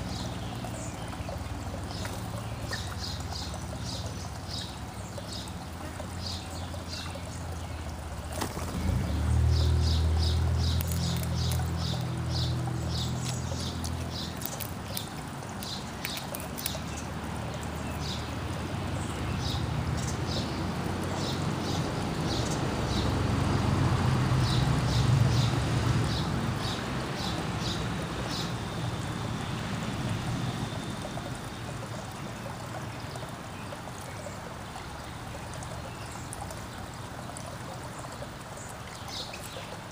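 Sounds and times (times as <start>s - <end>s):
small birds chirping: 0.0s - 23.1s, 30.6s - 39.9s.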